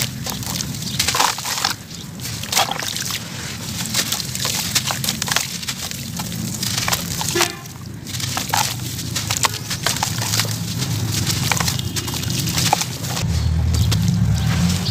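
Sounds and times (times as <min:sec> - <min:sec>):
grit splashing into water: 0:00.0 - 0:14.9
wet cement lumps crumbling: 0:00.0 - 0:14.9.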